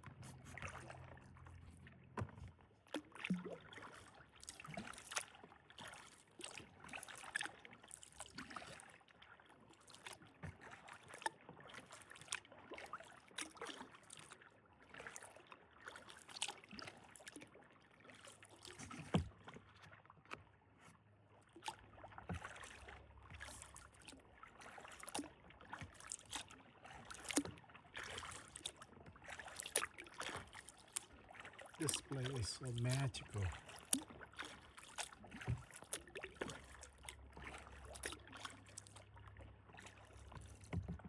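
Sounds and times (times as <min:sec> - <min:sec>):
paddle pulling through water: 0:00.0 - 0:41.0
small splashes and drips: 0:00.0 - 0:41.0.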